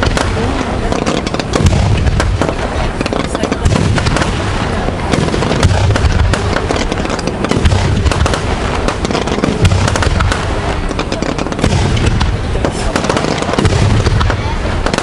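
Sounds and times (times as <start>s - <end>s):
continuous firework crackling: 0.0s - 15.0s
firework booms: 0.0s - 15.0s.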